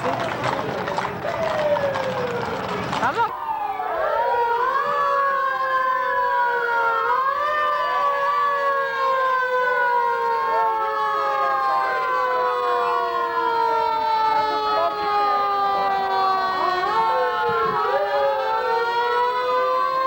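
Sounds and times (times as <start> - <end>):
emergency vehicle sirens: 0.0 - 20.0.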